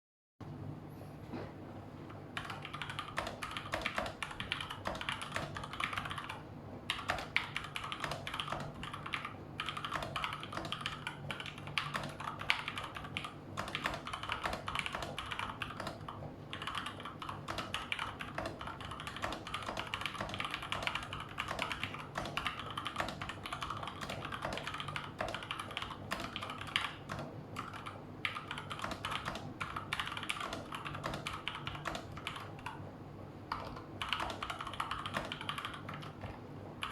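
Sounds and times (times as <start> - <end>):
mechanical keyboard typing: 2.4 - 32.8, 33.5 - 36.9.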